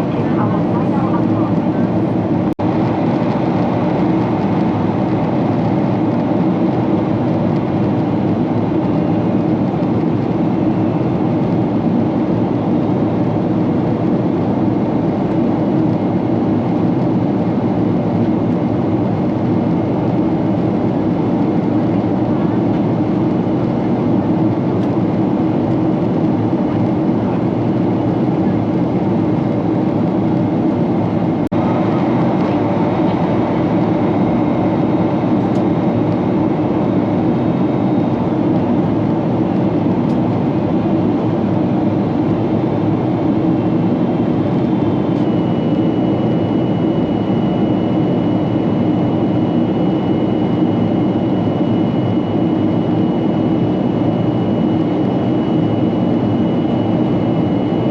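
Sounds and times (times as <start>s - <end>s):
aircraft cabin engine rumble: 0.0s - 57.9s.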